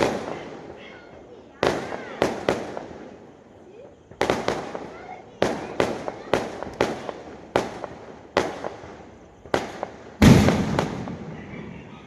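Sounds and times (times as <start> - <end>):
fireworks bangs: 0.0 - 12.0
loud fireworks blast with rumble: 0.0 - 12.0.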